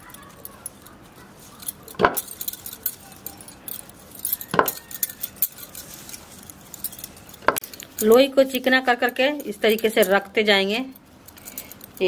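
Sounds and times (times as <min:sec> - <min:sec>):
bangles clinking loudly: 0:00.0 - 0:12.0
bangles jingling and clicking: 0:00.0 - 0:12.0.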